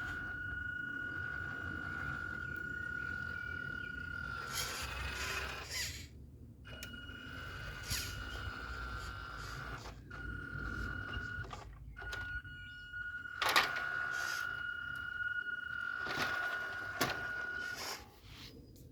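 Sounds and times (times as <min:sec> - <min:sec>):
electric motor whining: 0:00.0 - 0:06.1, 0:06.7 - 0:18.0.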